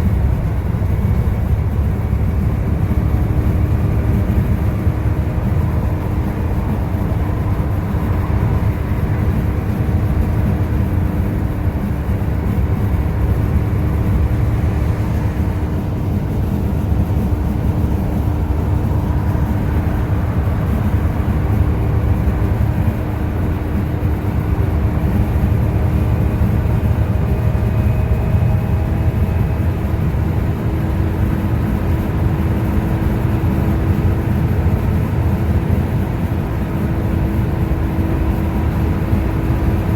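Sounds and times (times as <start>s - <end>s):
bus engine and road rumble: 0.0s - 39.9s
constant whining tone: 0.0s - 39.9s.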